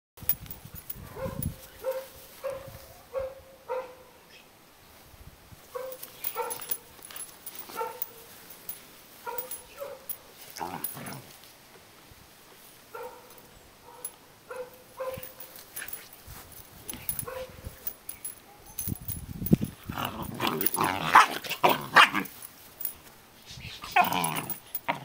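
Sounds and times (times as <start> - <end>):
light scuffling: 0.3 - 3.1, 5.6 - 25.0.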